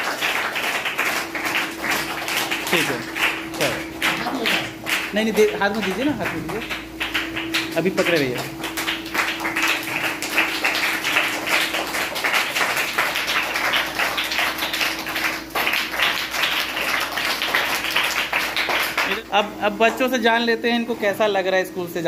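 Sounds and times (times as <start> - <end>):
children clapping: 0.0 - 19.2
steady low hum: 0.0 - 22.0.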